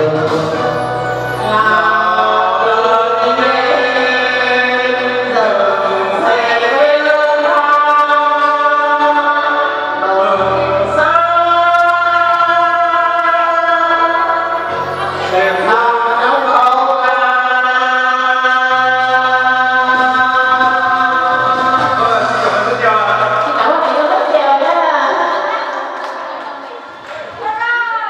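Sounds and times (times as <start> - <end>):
man and woman singing duet: 0.0 - 25.7
musical accompaniment: 0.0 - 27.6.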